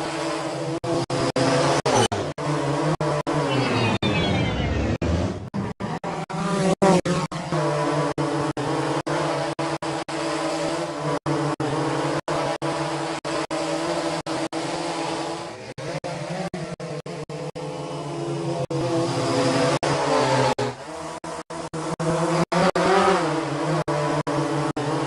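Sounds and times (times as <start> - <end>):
drone propellers buzzing: 0.0 - 25.0.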